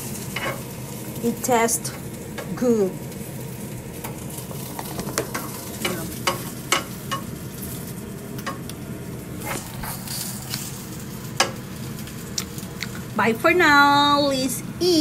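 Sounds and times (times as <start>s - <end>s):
oil popping and crackling: 0.0s - 13.4s
food frying in hot oil: 0.0s - 15.0s.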